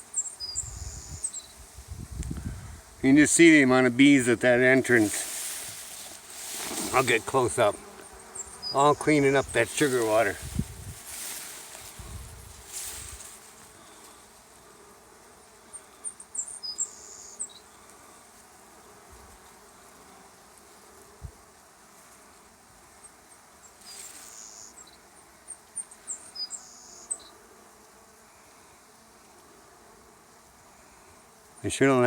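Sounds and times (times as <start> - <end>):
honey bees buzzing: 0.0 - 32.0.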